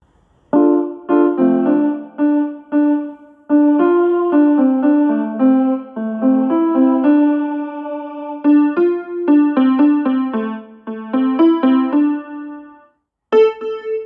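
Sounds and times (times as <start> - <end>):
piano-like ringtone melody: 0.6 - 14.0.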